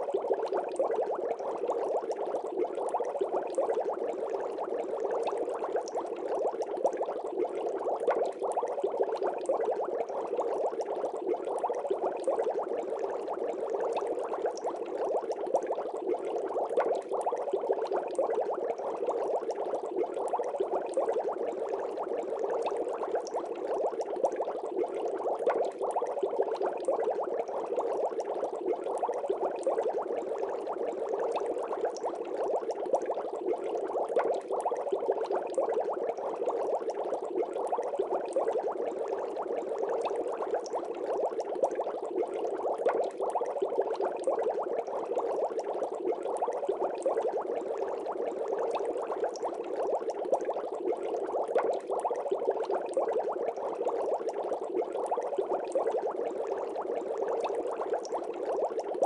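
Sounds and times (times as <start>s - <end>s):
water bubbling: 0.0s - 59.0s.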